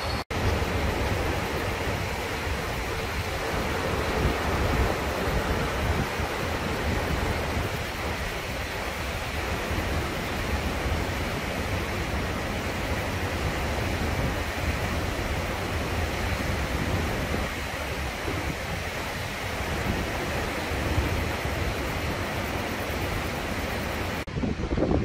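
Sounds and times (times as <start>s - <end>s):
river rushing over boulders: 0.0s - 25.0s.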